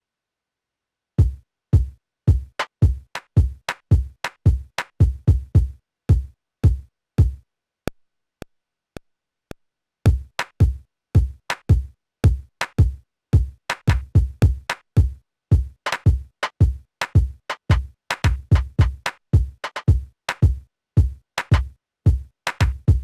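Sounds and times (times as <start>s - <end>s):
drum machine beat: 1.2s - 7.4s, 10.1s - 23.0s.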